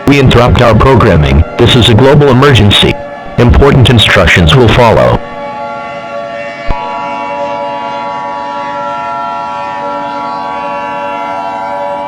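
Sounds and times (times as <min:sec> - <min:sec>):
horn-like sustained chord: 0:00.0 - 0:12.0.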